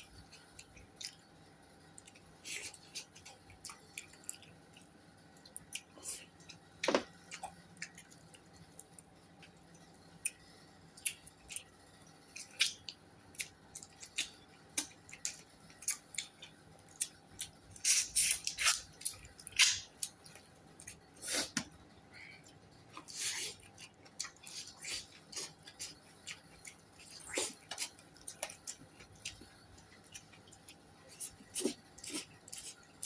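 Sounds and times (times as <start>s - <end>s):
person chewing: 0.1s - 1.2s, 1.9s - 9.6s, 11.0s - 21.7s, 22.3s - 33.0s.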